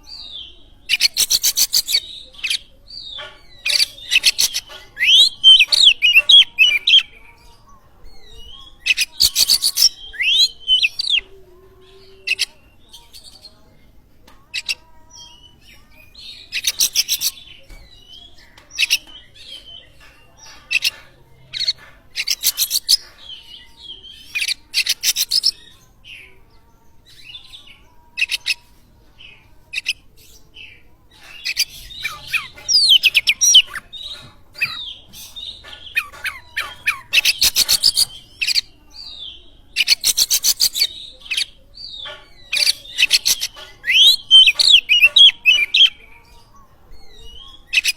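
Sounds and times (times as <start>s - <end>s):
bird singing: 0.0s - 13.7s, 14.3s - 47.9s.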